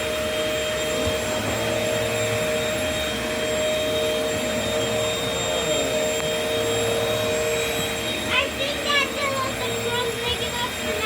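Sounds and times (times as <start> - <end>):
vacuum cleaner motor running: 0.0 - 11.0.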